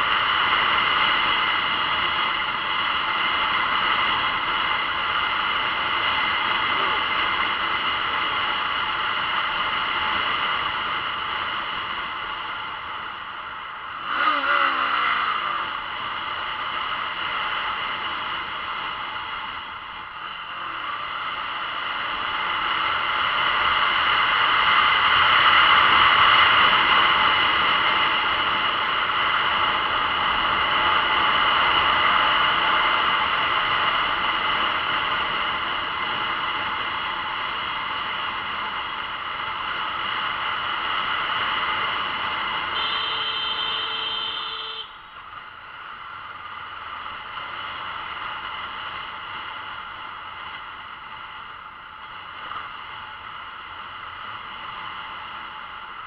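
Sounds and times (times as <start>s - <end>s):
wind and road rush: 0.0s - 56.0s.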